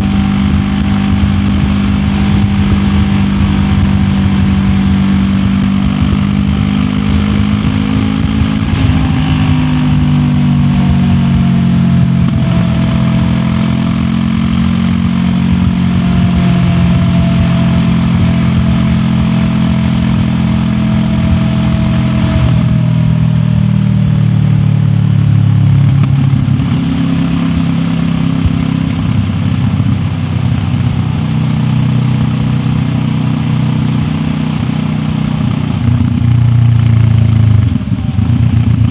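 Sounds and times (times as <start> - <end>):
motorcycle engine running: 0.0 - 38.9
road and wind hiss: 0.0 - 38.9.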